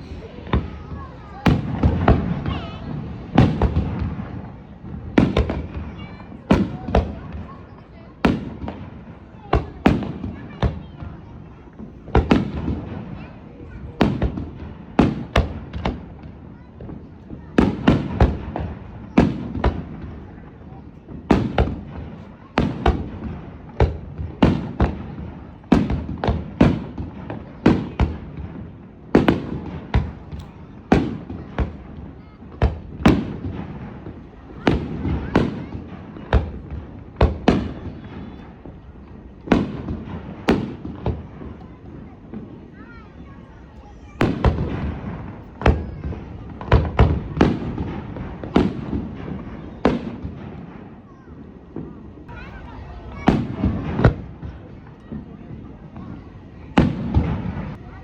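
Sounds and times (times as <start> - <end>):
fireworks bursting with echo: 0.0 - 58.0.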